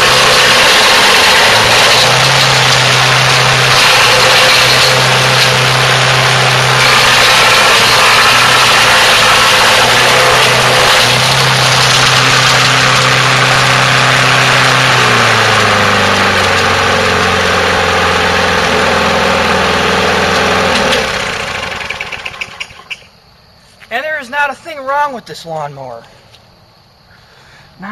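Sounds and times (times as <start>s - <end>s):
lawn mower engine running: 0.0s - 23.0s
mower grinding sticks: 0.0s - 23.0s.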